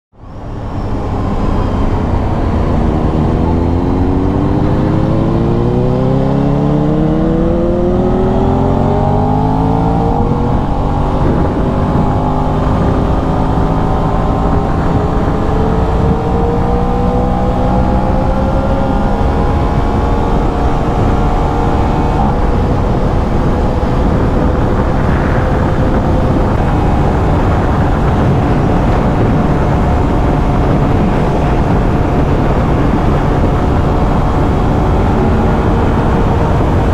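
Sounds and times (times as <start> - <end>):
wind and road noise: 0.1 - 36.9
motorcycle engine revving: 0.6 - 36.9.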